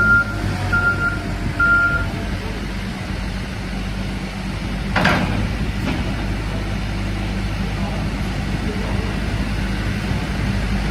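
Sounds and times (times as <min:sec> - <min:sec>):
diesel engine running: 0:00.0 - 0:10.9.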